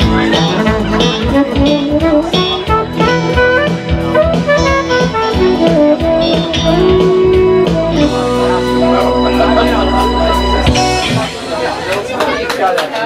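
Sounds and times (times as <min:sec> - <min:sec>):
saxophone melody: 0:00.0 - 0:12.1
electric guitar: 0:00.0 - 0:12.5
steady drum beat: 0:00.0 - 0:13.0.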